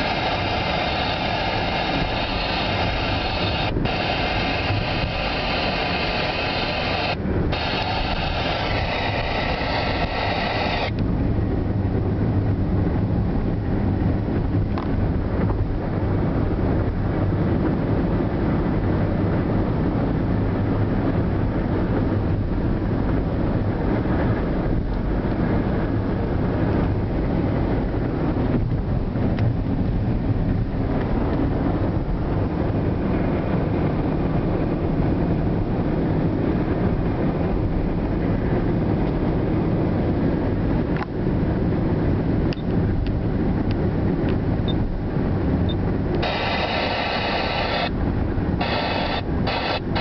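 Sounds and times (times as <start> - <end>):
car road and wind noise: 0.0 - 50.0.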